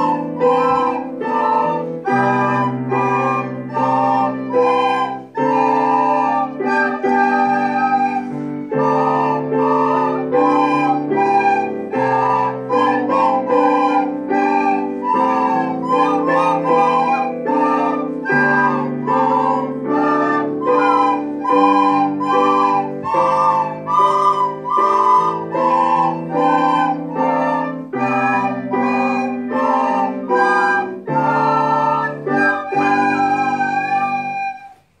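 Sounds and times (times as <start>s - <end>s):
sustained accompaniment: 0.0s - 34.8s
recorders playing a melody: 0.0s - 35.0s.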